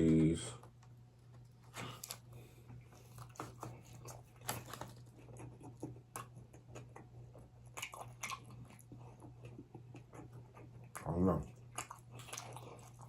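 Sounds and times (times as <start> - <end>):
chewing and lip smacking: 1.4 - 13.0.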